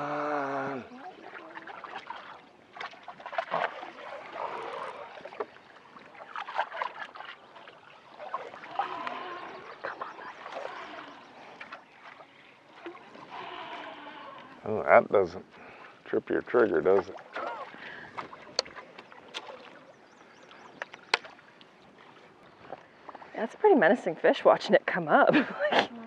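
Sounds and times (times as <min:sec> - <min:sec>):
water lapping against boat: 0:00.0 - 0:26.0.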